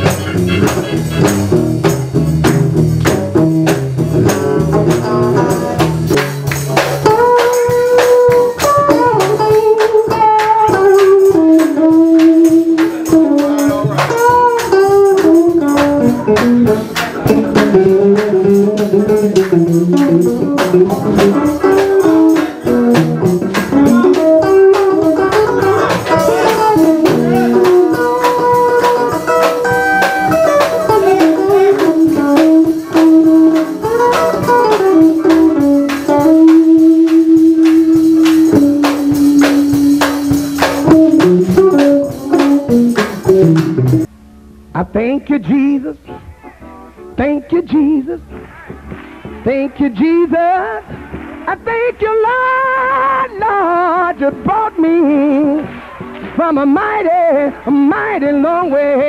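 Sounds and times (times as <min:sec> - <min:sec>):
heavy bass line: 0:00.0 - 0:49.6
drum kit: 0:00.0 - 0:59.0
lead guitar melody: 0:00.0 - 0:59.0.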